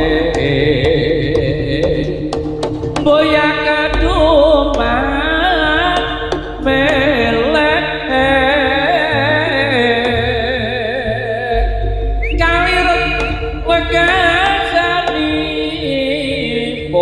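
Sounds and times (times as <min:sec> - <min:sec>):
held drone tone: 0:00.0 - 0:17.0
low percussion: 0:00.0 - 0:17.0
ornamented lead melody: 0:00.0 - 0:17.0.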